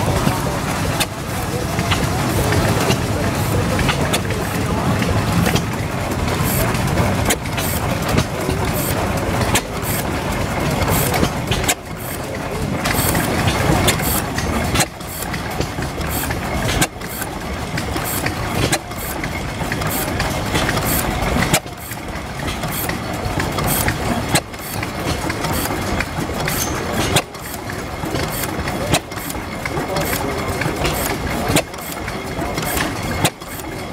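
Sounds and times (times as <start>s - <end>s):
gas engine mechanical clatter: 0.0s - 33.9s.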